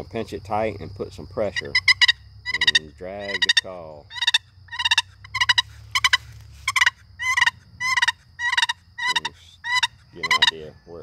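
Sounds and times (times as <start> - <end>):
turkey call rattling purrs: 1.2 - 11.0.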